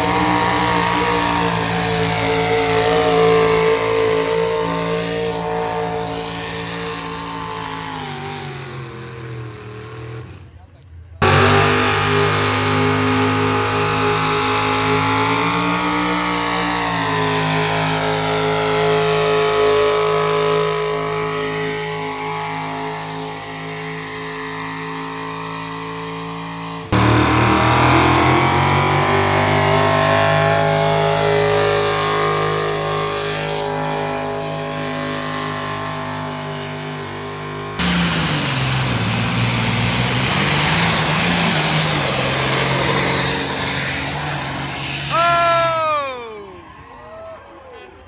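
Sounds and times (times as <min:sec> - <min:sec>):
vehicle engine revving under load: 0:00.0 - 0:45.9.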